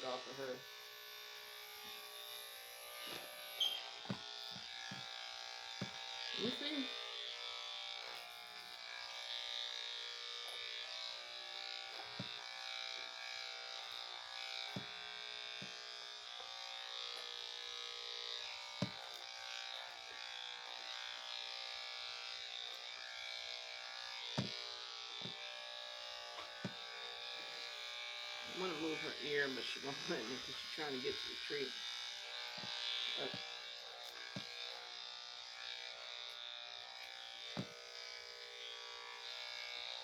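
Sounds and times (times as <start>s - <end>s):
electric clippers buzzing: 0.0s - 40.0s.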